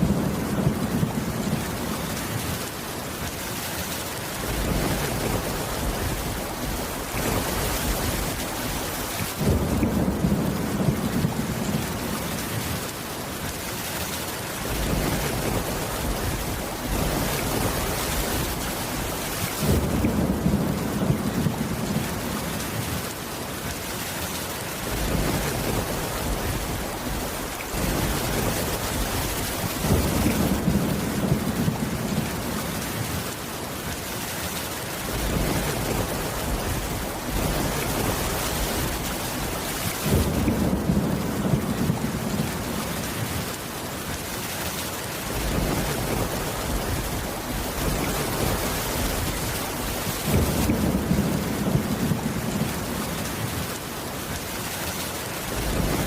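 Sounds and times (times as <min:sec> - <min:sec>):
thunder rumbling: 0:00.0 - 0:02.8, 0:04.4 - 0:12.9, 0:14.6 - 0:23.1, 0:24.8 - 0:33.4, 0:35.0 - 0:43.6, 0:45.2 - 0:53.8, 0:55.5 - 0:56.0
heavy rain: 0:00.0 - 0:56.0.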